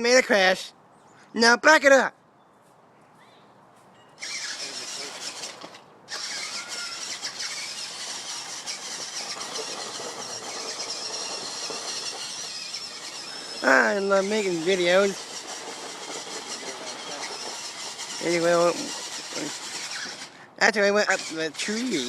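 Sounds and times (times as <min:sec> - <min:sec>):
toy truck electric motor whining: 0:04.2 - 0:22.0.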